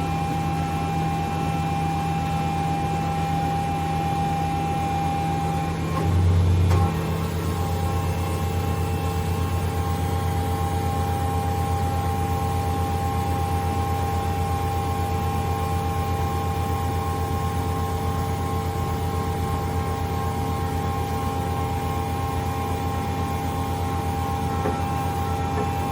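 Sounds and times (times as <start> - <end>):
bandsaw motor humming and whining: 0.0 - 25.9.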